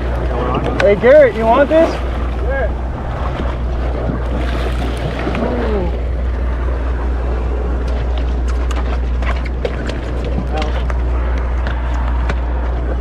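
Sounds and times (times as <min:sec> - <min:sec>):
boat engine droning: 0:00.0 - 0:13.0
water noise: 0:00.0 - 0:13.0
wind: 0:00.0 - 0:13.0.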